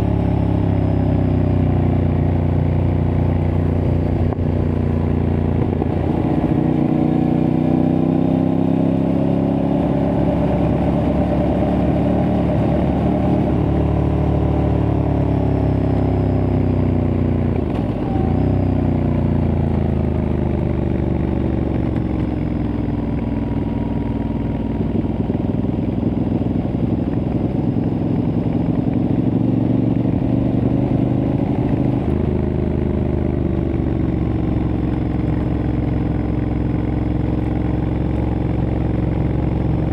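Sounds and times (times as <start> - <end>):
motorcycle engine revving while riding: 0.0 - 39.9.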